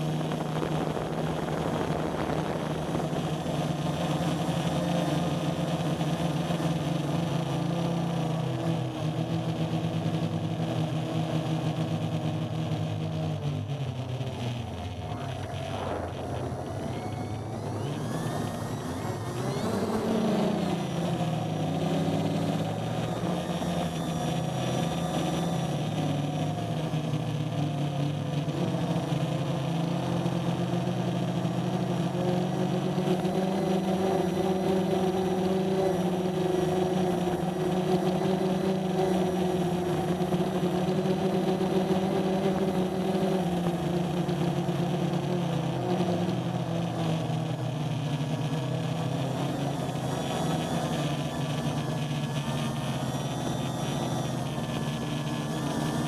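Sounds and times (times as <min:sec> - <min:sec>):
quadcopter motors buzzing: 0:00.0 - 0:13.2, 0:14.3 - 0:56.0.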